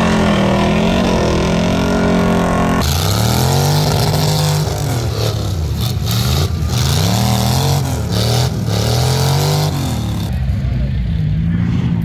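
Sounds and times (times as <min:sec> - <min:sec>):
truck engine revving hard: 0:00.0 - 0:10.3.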